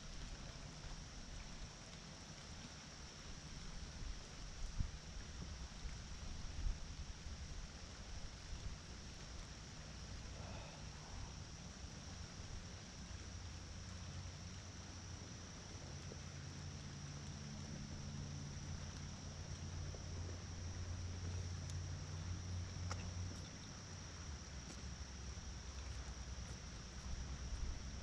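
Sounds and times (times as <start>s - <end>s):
low hum: 0.0s - 28.0s
soft steady hiss: 0.0s - 28.0s.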